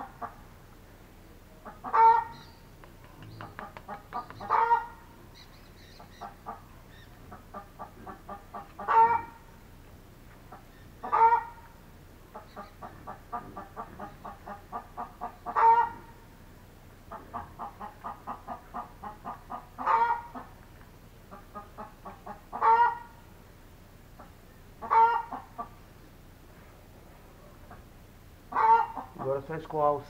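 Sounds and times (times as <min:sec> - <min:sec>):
chicken clucking and squawking: 0:00.0 - 0:00.6, 0:01.5 - 0:09.6, 0:10.4 - 0:16.4, 0:17.0 - 0:20.6, 0:21.2 - 0:23.3, 0:24.2 - 0:26.0, 0:27.4 - 0:29.6.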